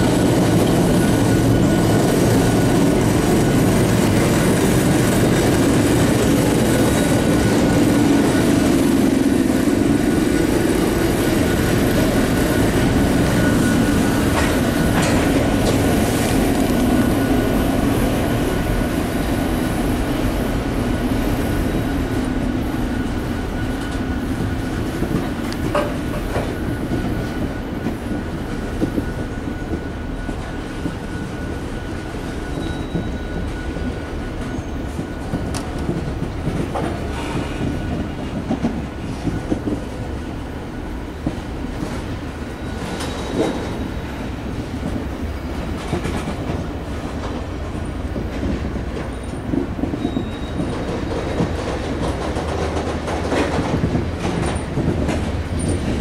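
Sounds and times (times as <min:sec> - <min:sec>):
wheels clacking over rail joints: 0:00.0 - 0:18.8, 0:21.7 - 0:40.1, 0:44.7 - 0:56.0
train wheels rumbling on rail: 0:00.0 - 0:56.0.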